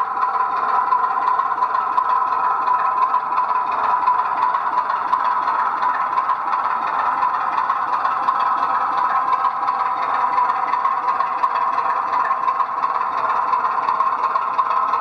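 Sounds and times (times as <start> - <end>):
model locomotive mechanical drone: 0.0 - 15.0.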